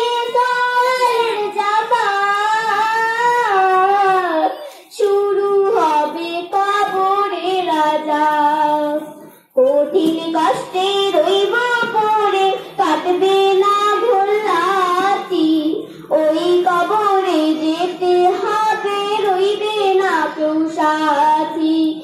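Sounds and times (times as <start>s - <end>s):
woman singing into microphone: 0.0s - 22.0s.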